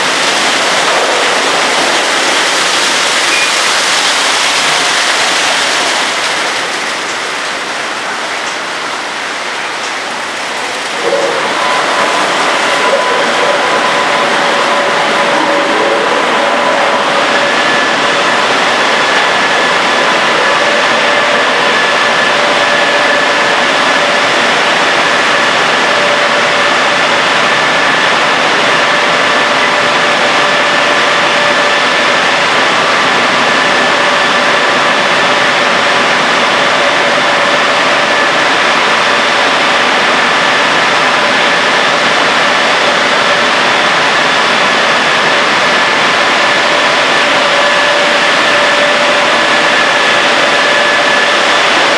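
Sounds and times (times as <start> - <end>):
car wash rushing noise: 0.0 - 51.9
faint steady whine: 0.0 - 51.9.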